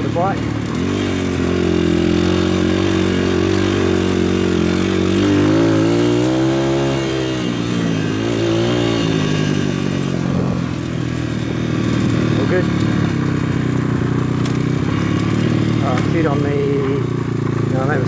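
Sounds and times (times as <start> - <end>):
pit bike engine revving: 0.0 - 18.0.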